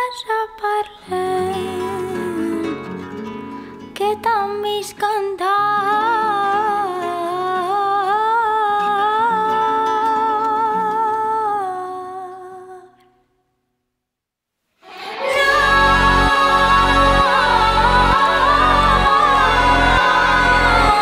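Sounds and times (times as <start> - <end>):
woman singing wordless: 0.0 - 2.9, 4.0 - 13.0, 15.2 - 21.0.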